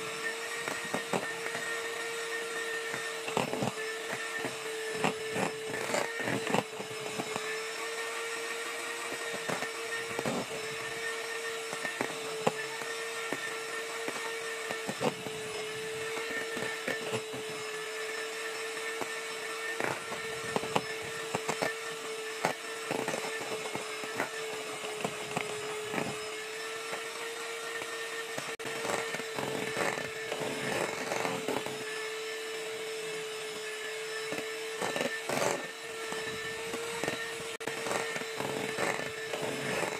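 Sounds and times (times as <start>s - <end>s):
electric hand mixer running: 0.0s - 39.9s.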